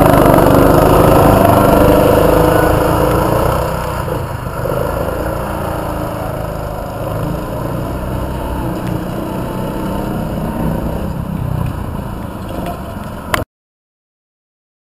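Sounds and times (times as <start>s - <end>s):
race car engine rumble: 0.0s - 13.4s.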